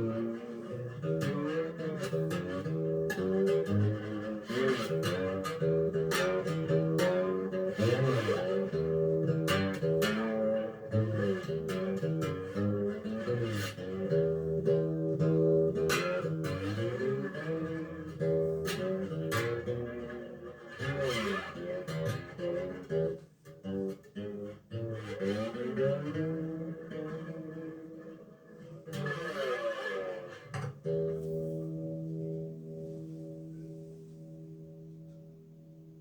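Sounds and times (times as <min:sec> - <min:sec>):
slide guitar plucked gliding notes: 0:00.0 - 0:36.0.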